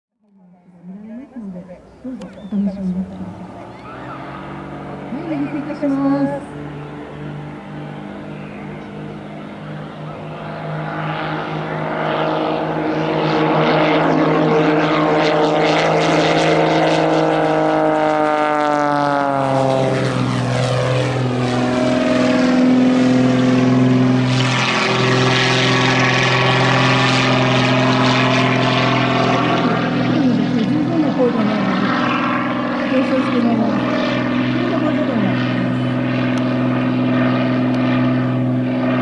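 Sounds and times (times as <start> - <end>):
propeller plane engine at full power: 0.2 - 39.0.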